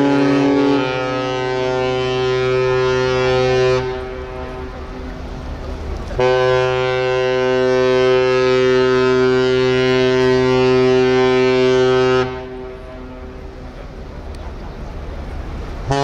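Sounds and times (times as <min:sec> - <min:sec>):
deep ship horn blast: 0:00.0 - 0:14.4, 0:15.6 - 0:16.0.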